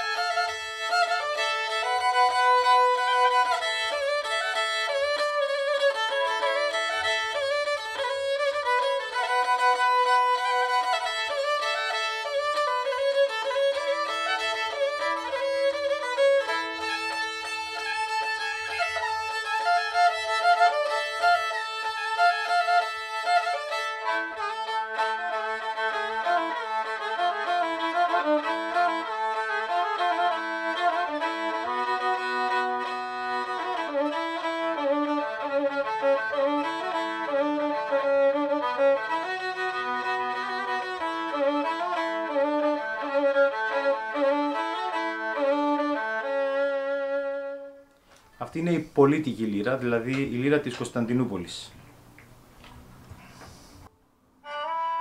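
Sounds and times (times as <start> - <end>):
bowed fiddle folk melody: 0.0 - 55.0.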